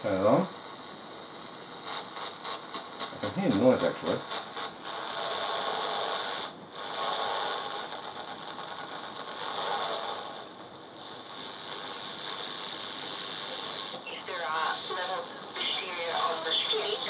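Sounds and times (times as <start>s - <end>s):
radio static hissing: 0.0s - 17.0s.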